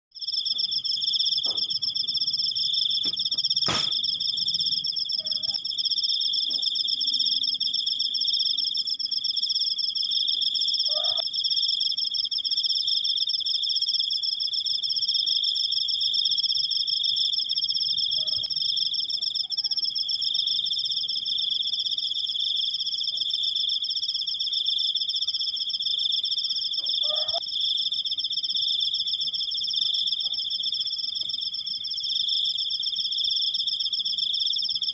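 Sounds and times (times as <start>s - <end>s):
crickets trilling: 0.2s - 34.9s.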